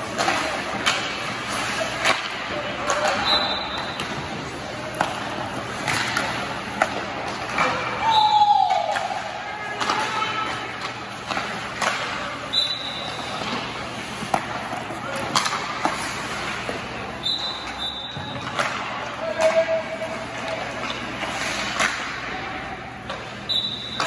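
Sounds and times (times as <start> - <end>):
skate blades scraping ice: 0.0 - 7.9, 9.6 - 22.5
hockey pucks clacking off sticks: 0.0 - 24.0.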